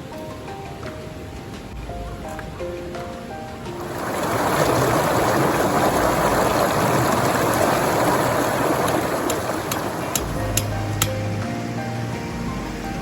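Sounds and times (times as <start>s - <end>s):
running water: 1.8s - 13.0s.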